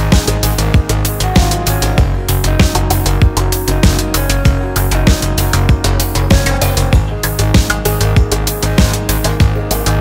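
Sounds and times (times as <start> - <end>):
electronic music with fast drum beat: 0.0 - 10.0.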